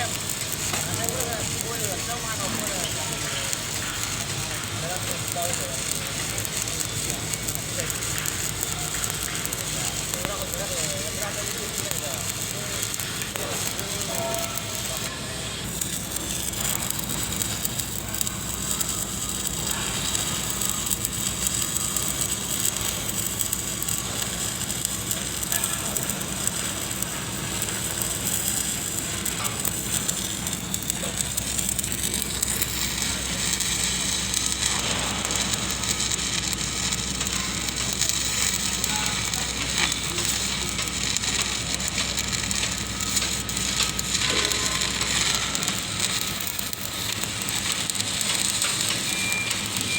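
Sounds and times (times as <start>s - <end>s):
arc welding crackle: 0.0s - 49.9s.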